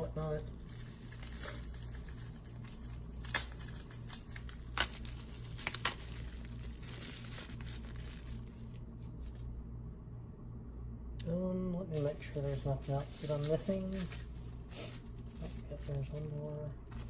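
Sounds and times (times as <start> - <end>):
plastic packaging crinkling: 0.0 - 9.5, 12.0 - 17.0
steady low hum: 0.0 - 17.0.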